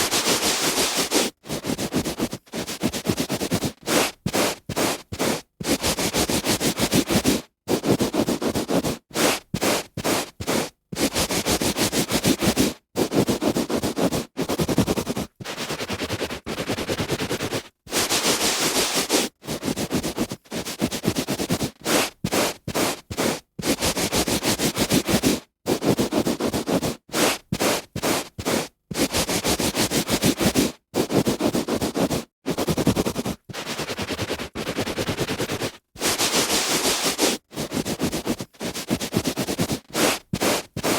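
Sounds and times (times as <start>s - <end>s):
hand rubbing on carpet: 0.0s - 40.9s.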